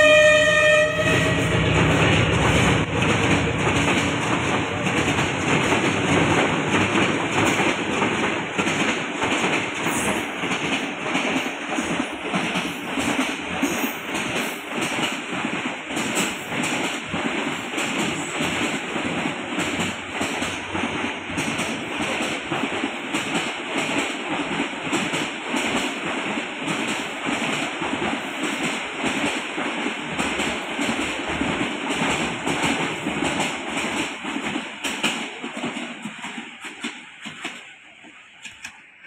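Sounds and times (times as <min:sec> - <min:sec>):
train wheels clicking over rail joints: 0:01.5 - 0:38.9.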